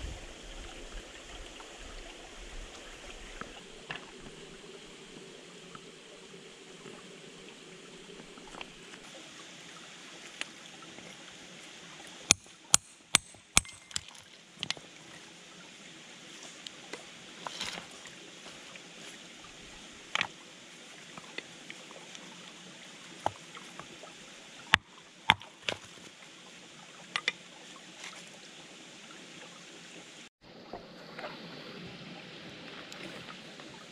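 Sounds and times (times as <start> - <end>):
stream running: 0.0 - 33.9.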